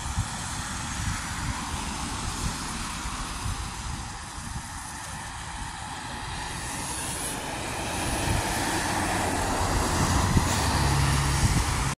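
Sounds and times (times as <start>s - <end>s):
bus driving past: 0.0s - 11.9s
low engine drone: 0.0s - 11.9s.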